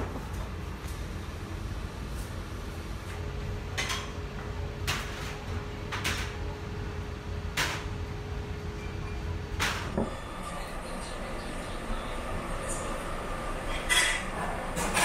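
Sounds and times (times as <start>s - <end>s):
faint hum: 0.0s - 14.9s.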